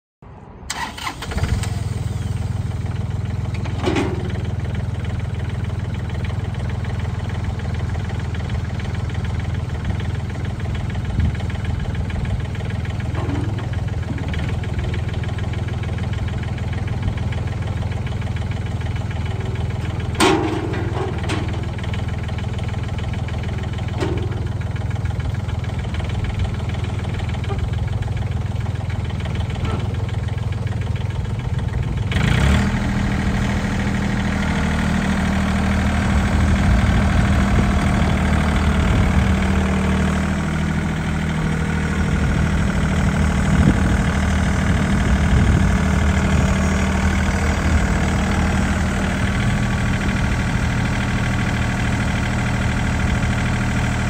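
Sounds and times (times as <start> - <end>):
tractor diesel engine running: 0.4 - 54.0.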